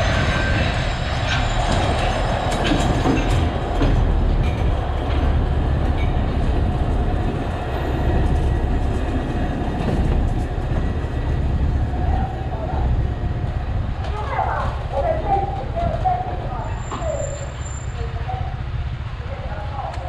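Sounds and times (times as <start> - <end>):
clicks and clacks of carriages: 0.0 - 20.0
train wheels rumbling on rails: 0.0 - 20.0.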